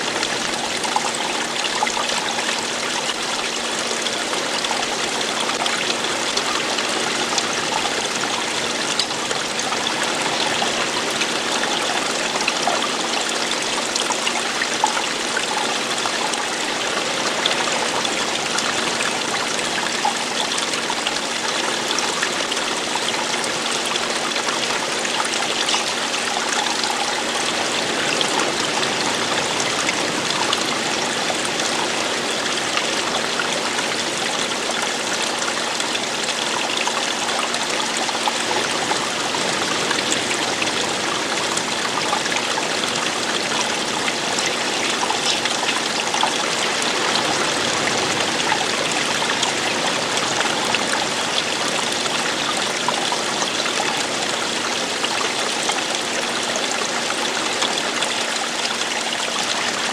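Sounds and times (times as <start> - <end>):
running water falling and flowing: 0.0 - 59.9.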